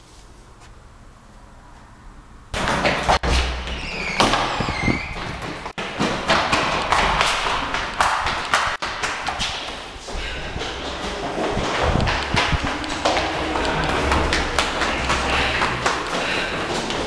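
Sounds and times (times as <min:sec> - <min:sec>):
running footsteps on hard floor: 0:02.6 - 0:17.0.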